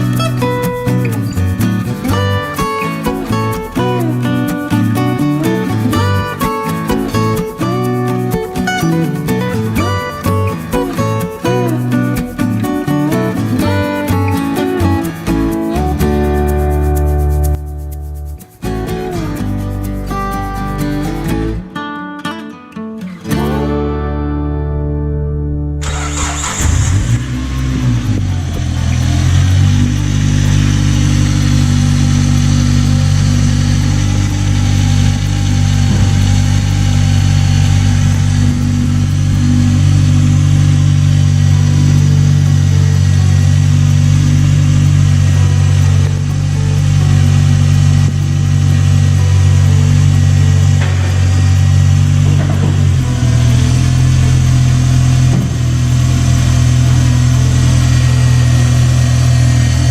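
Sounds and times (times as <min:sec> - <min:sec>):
car engine idling: 0:00.0 - 0:21.6, 0:25.8 - 0:59.9.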